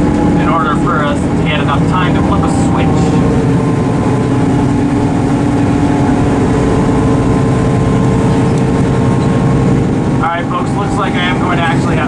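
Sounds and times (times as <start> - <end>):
train diesel engine droning: 0.0 - 12.0.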